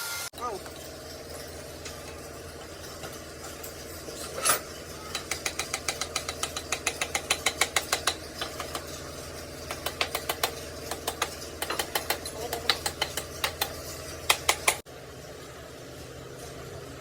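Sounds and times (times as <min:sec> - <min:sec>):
machine hum: 0:00.3 - 0:17.0
rapid tapping on metal: 0:00.6 - 0:14.8.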